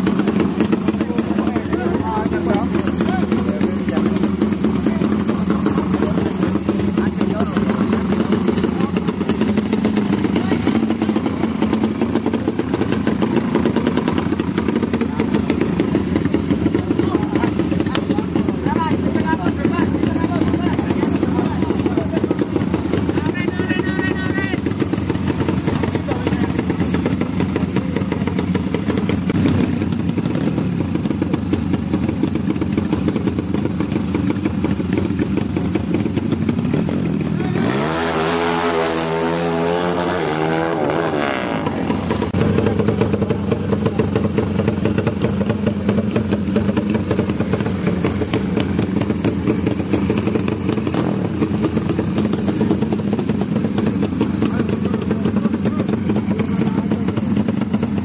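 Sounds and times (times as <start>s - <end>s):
motorcycle engines revving: 0.0s - 58.0s
motorcycles accelerating away: 0.0s - 58.0s.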